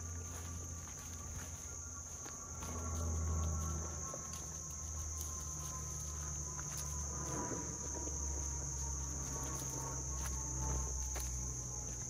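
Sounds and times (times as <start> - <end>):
footsteps on dirt path: 0.0 - 12.0
insects droning: 0.0 - 12.0.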